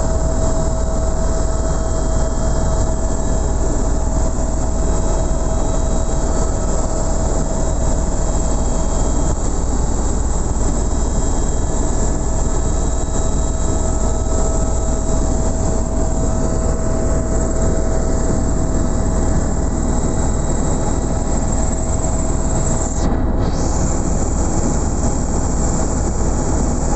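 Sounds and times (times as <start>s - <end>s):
helicopter engine and rotor rumble: 0.0s - 26.9s.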